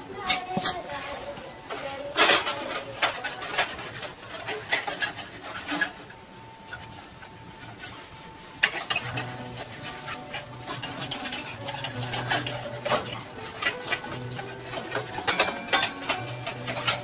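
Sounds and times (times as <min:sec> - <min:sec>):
rubbing and scraping: 0:00.2 - 0:17.0.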